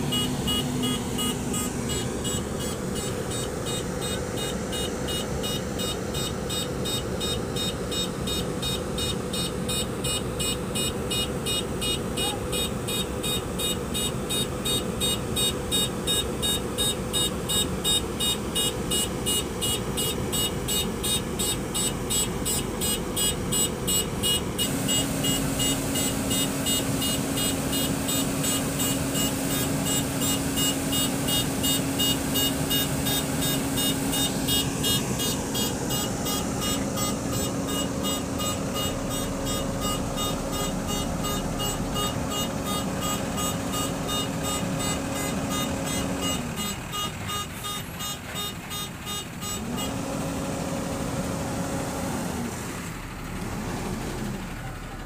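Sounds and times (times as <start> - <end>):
heavy diesel machinery pulsing: 0.0 - 55.0
steady engine drone: 0.0 - 55.0.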